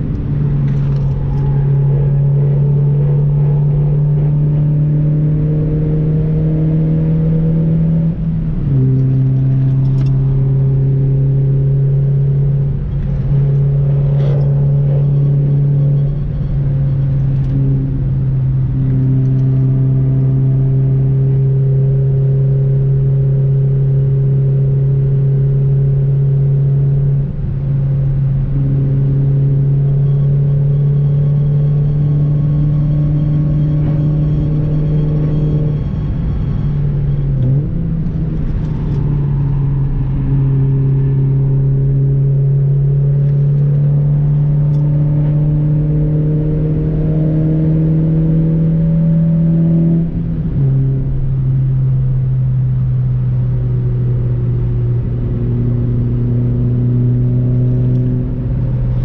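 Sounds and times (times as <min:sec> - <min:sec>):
car engine revving high: 0:00.0 - 0:59.0.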